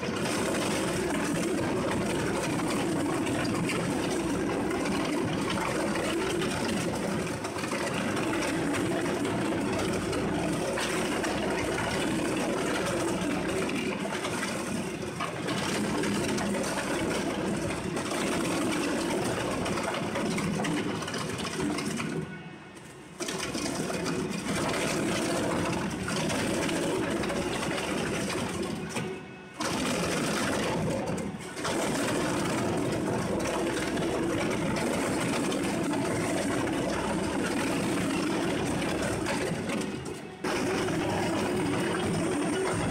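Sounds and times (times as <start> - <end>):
shredder grinding paper: 0.0 - 42.9.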